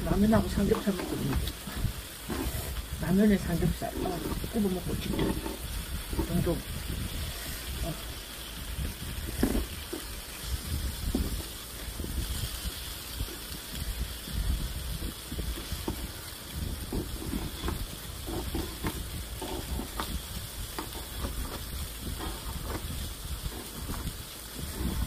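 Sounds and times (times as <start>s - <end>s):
fat crackling and popping: 0.0s - 25.0s
pork sizzling in a pan: 0.0s - 25.0s.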